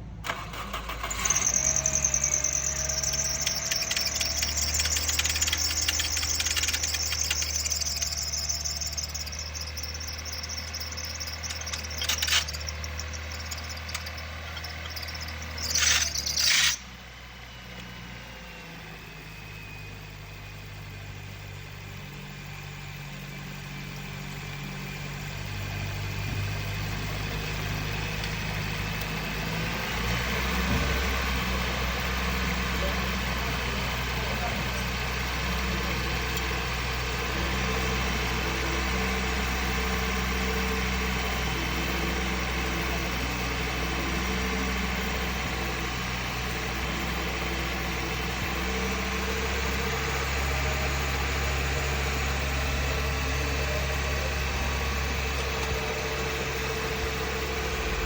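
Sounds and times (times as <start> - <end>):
car engine idling: 0.0 - 58.0
drive belt chirping squeal: 0.3 - 58.0.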